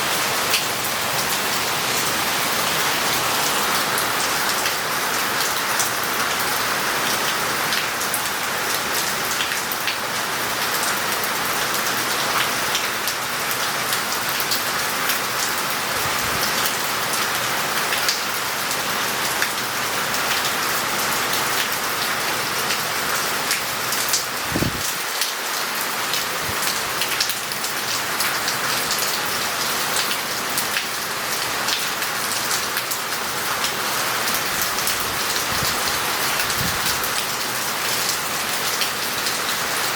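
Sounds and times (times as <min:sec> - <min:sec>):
heavy rain on roof tiles: 0:00.0 - 0:39.9.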